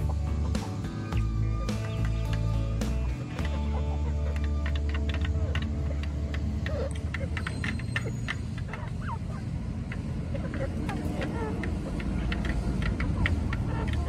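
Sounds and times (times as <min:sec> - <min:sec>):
beaks pecking a metal pan: 0:00.0 - 0:14.0
chickens clucking: 0:00.0 - 0:14.0.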